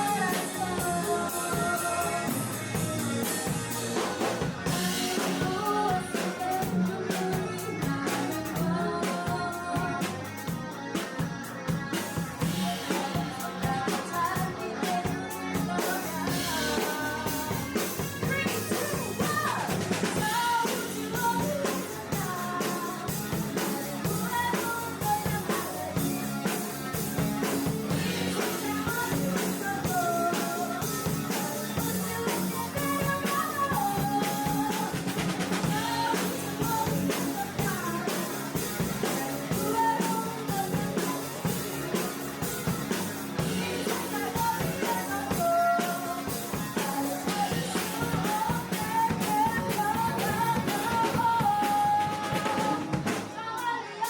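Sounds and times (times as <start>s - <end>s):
drum kit beat: 0.0s - 53.7s
person singing: 0.0s - 54.0s
rock band playing: 0.0s - 54.0s.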